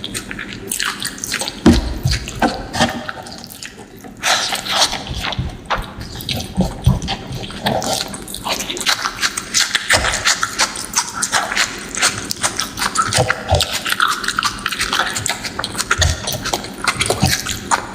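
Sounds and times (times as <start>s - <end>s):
lip-smacking and mouth clicks: 0.0s - 17.9s
wet chewing: 0.0s - 17.9s.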